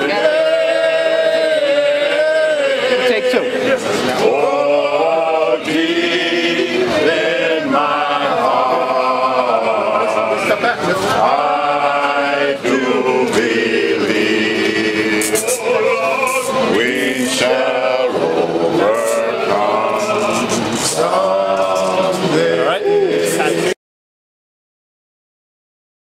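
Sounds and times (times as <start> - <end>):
men singing in chorus: 0.0 - 23.8.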